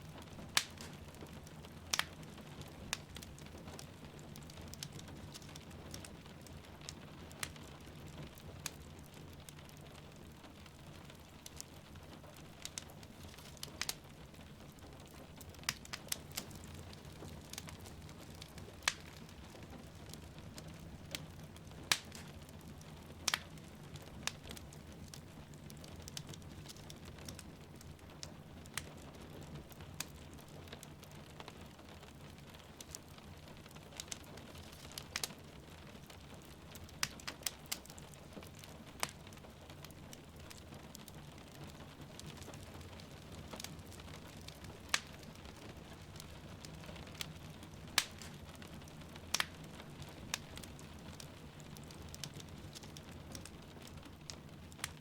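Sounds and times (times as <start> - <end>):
rain falling outside: 0.0 - 55.0
wood fire crackling and popping: 0.0 - 55.0.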